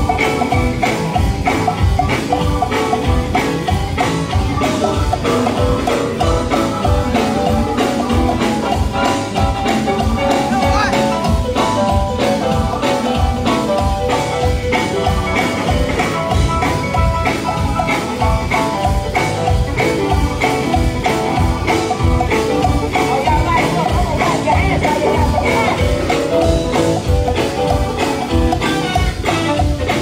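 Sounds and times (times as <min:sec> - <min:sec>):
gospel band music: 0:00.0 - 0:30.0
steady drum beat: 0:00.0 - 0:30.0.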